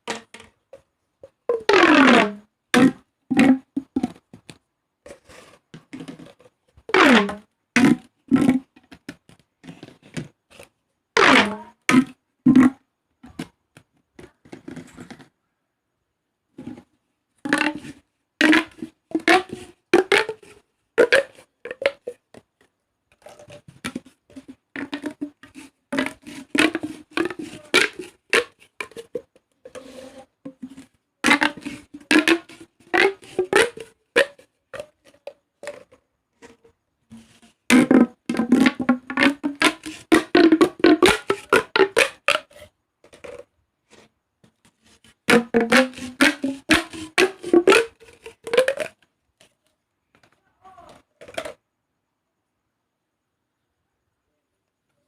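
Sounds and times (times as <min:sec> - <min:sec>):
plastic tube crunchy clicking: 0:00.0 - 0:15.3, 0:16.6 - 0:51.6.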